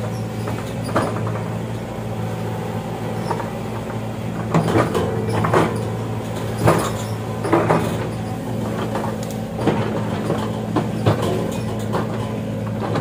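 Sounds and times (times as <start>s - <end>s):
machine clanks and creaks: 0.0s - 1.8s, 3.1s - 13.0s
diesel engine running: 0.0s - 13.0s.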